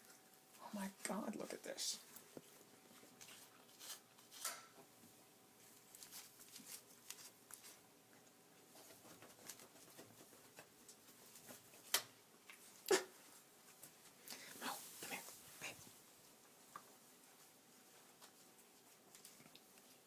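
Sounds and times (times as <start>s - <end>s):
cats rustling among toys: 0.0s - 20.0s.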